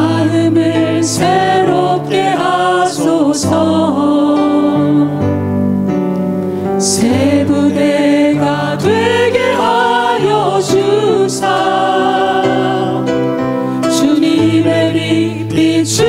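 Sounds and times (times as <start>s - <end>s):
men and women singing worship song: 0.0s - 5.4s, 6.6s - 16.0s
instrumental accompaniment: 0.0s - 16.0s.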